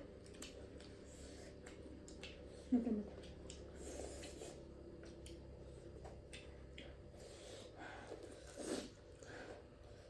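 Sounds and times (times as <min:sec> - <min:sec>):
person chewing food: 0:00.0 - 0:02.5, 0:03.1 - 0:10.0.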